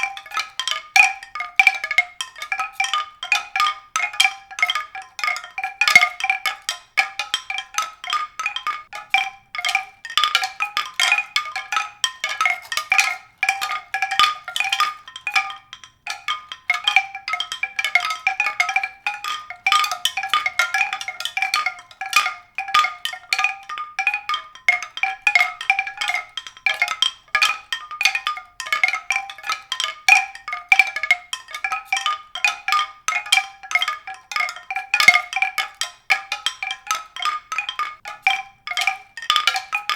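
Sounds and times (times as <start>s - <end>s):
struck tuned percussion notes: 0.0s - 39.9s.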